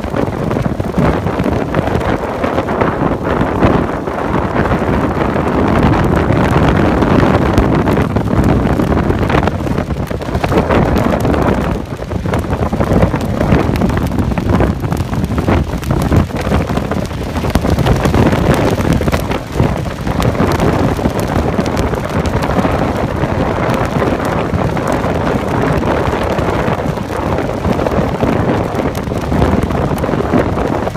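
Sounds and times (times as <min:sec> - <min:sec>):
strong wind buffeting microphone: 0:00.0 - 0:30.9.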